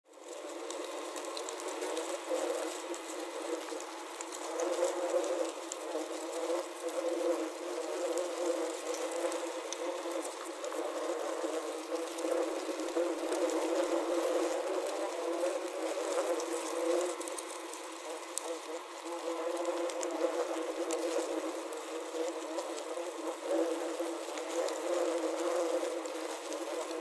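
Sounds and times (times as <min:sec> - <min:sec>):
wasps ticking against plastic: 0:00.1 - 0:27.0
wasps buzzing: 0:00.3 - 0:27.0.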